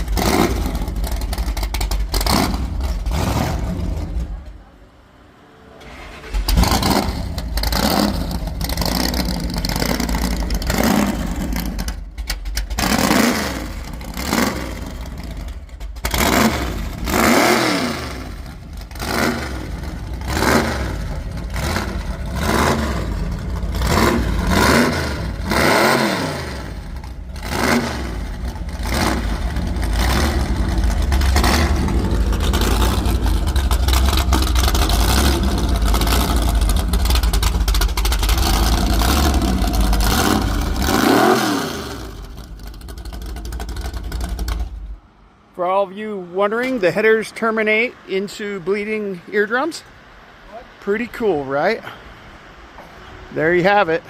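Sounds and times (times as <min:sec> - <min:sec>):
hot rod engine revving: 0:00.0 - 0:04.7, 0:05.8 - 0:45.0.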